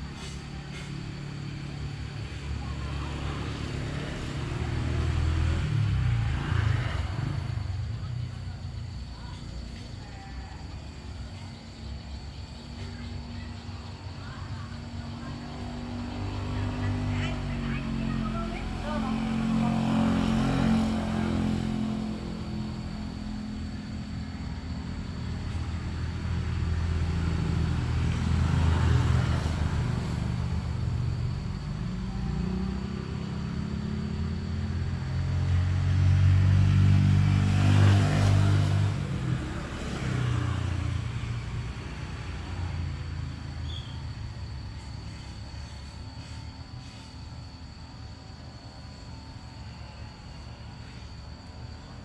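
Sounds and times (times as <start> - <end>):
vehicle engines passing: 0.0 - 52.0.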